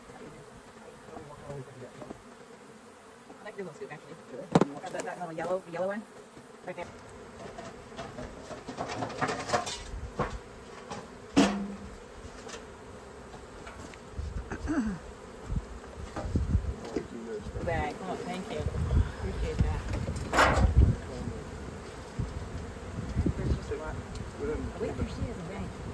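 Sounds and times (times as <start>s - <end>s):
bees buzzing: 0.0s - 25.9s.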